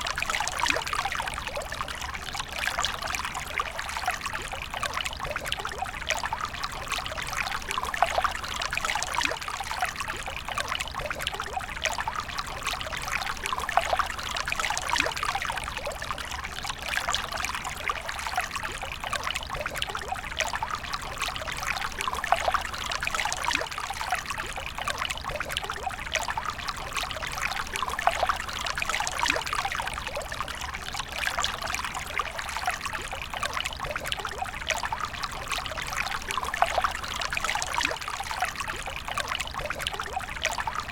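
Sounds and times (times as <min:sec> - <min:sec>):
small water splashes: 0:00.0 - 0:40.9
water pouring and trickling: 0:00.0 - 0:40.9.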